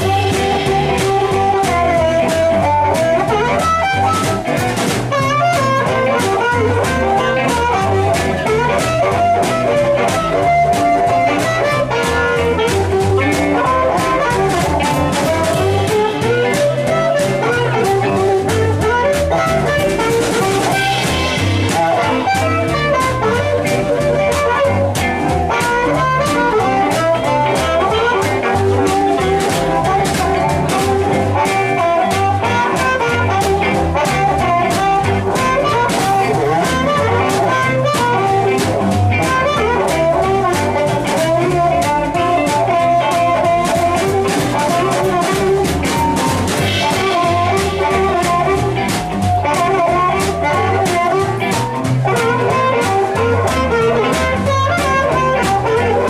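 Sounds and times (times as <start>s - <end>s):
drum kit steady beat: 0.0s - 56.0s
electric guitars: 0.0s - 56.0s
harmonica: 0.0s - 56.0s
upright double bass: 0.0s - 56.0s.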